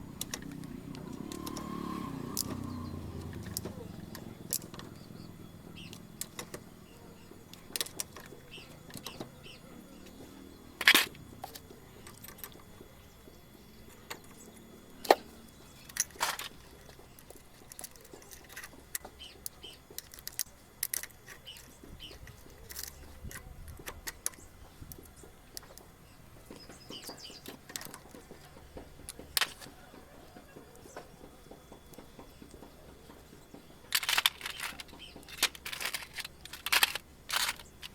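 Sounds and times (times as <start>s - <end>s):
hand tools clicking and knocking: 0.0s - 13.0s, 13.8s - 37.9s.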